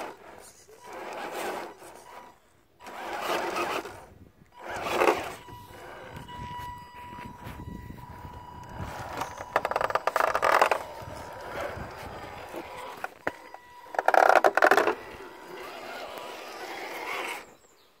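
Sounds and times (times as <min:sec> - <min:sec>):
tyres grinding on rock: 0:00.0 - 0:06.7, 0:08.6 - 0:17.7
electric motor whine: 0:00.0 - 0:17.7.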